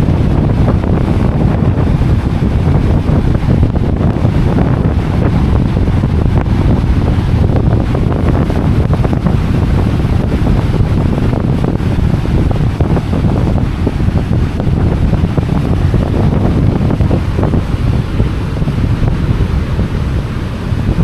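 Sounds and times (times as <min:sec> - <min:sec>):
ocean surf washing: 0:00.0 - 0:21.0
wind buffeting microphone: 0:00.0 - 0:21.0.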